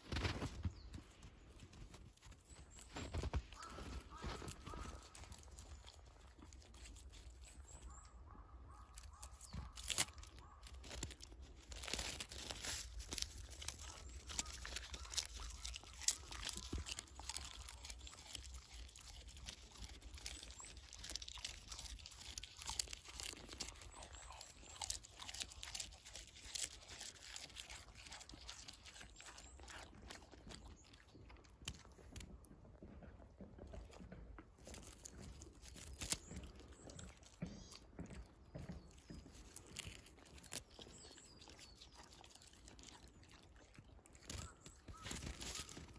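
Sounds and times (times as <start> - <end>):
dog chewing leaves: 0.0 - 45.9.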